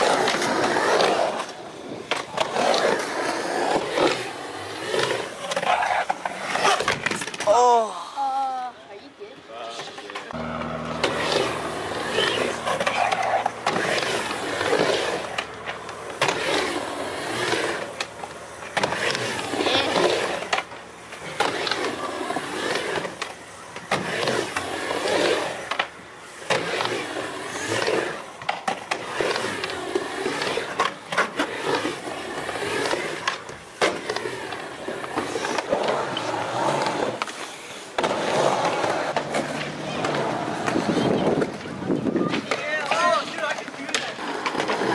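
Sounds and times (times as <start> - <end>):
skateboard wheels rolling: 0.0 - 44.9.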